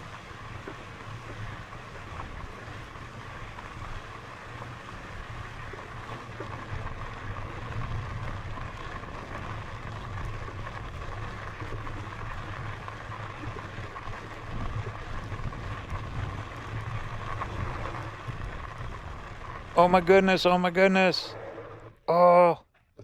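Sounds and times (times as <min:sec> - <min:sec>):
electric bike motor hum: 0:00.0 - 0:19.8
wind and tyre rumble: 0:00.0 - 0:20.3.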